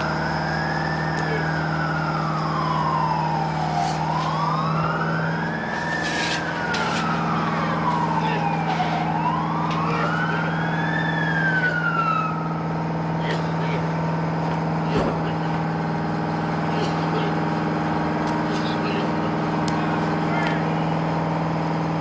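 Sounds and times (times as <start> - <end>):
emergency siren wailing: 0.0 - 22.0
engine drone: 0.0 - 22.0.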